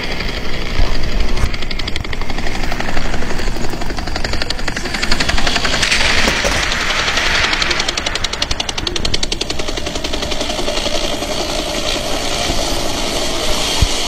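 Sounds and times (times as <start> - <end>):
small electric motor whirring: 0.0 - 14.0
wheels clicking on rails: 0.0 - 14.0.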